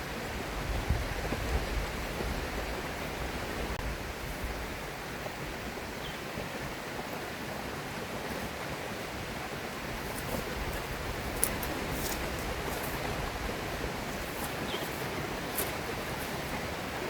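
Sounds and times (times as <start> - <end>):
river rushing: 2.8 - 17.0.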